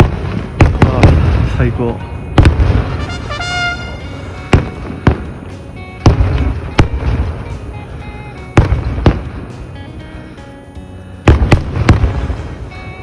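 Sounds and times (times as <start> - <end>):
firework shells bursting: 0.0 - 7.7, 8.5 - 9.8, 11.2 - 12.7
continuous low rumble: 0.0 - 13.0.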